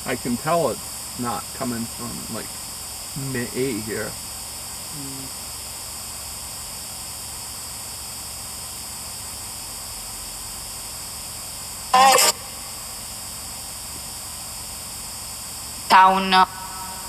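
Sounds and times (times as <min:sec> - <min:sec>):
static hiss: 0:00.0 - 0:17.0.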